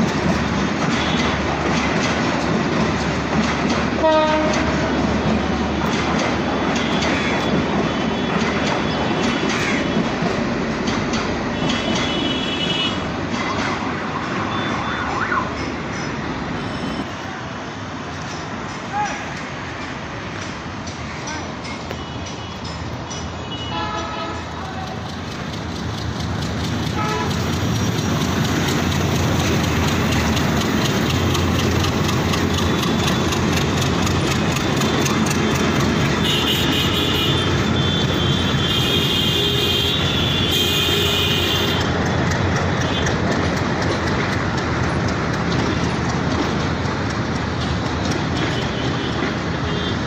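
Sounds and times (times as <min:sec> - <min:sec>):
wheel clatter over rail joints: 0:00.0 - 0:14.6, 0:15.5 - 0:23.4, 0:24.3 - 0:50.0
train coaches rumbling: 0:00.0 - 0:50.0.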